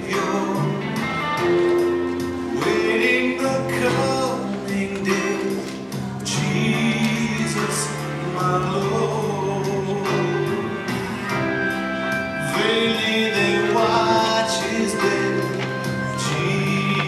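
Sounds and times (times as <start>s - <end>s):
song with voices and instruments: 0.0s - 17.0s.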